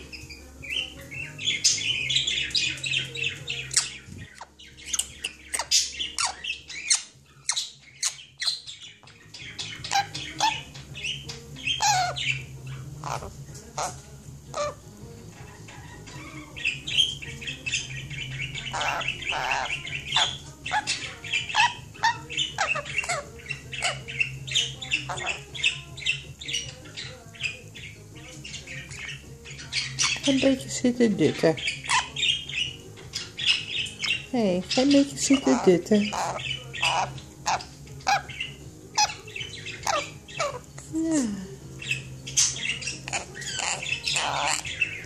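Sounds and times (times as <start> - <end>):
parrot chirps and squawks: 0.0 - 14.8, 15.4 - 30.4, 31.3 - 40.9, 41.8 - 45.0.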